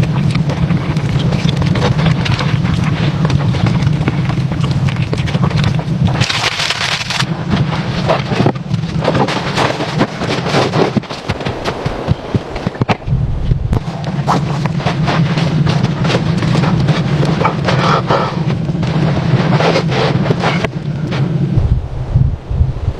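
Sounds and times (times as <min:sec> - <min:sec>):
wood fire crackling and popping: 0:00.0 - 0:21.6
low rumble: 0:00.0 - 0:22.9.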